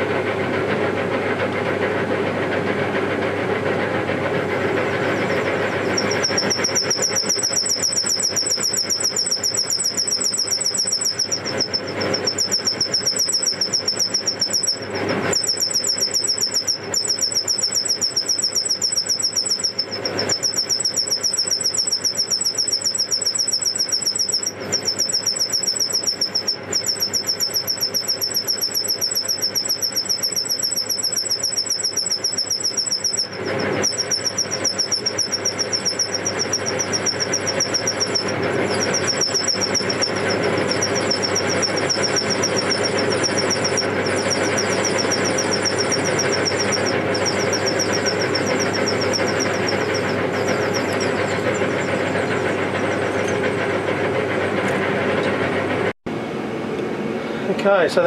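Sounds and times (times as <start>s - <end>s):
metal lathe running: 0.0s - 55.9s
parting tool squealing chatter: 4.7s - 55.7s.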